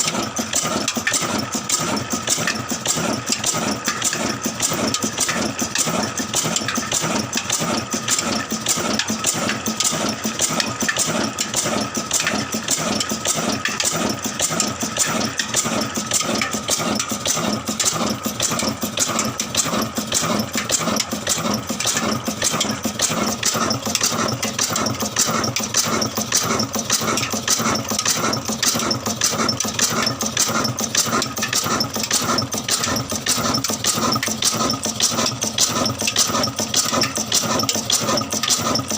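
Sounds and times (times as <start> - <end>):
old engine running: 0.0 - 38.9.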